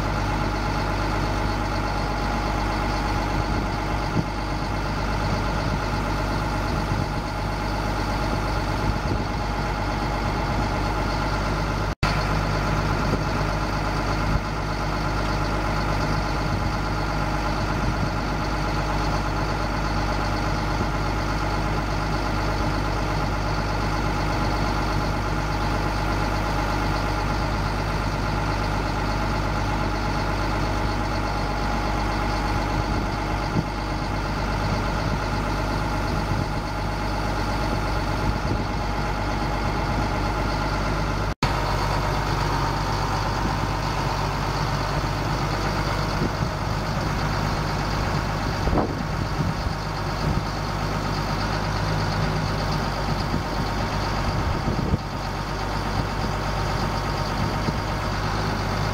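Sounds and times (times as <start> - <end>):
diesel engine idling: 0.0 - 58.9
hydraulic pump whine: 0.0 - 58.9.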